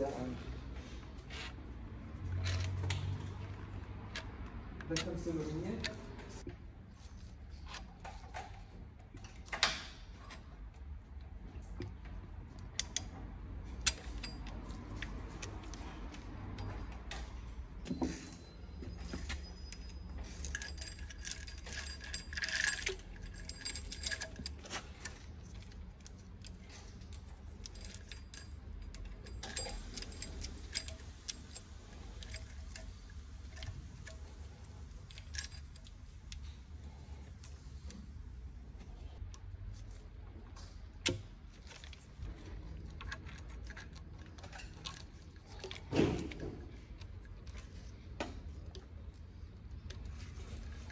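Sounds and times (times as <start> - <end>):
timing chain clinking and rattling: 1.1 - 6.0, 7.1 - 37.3, 41.6 - 50.9.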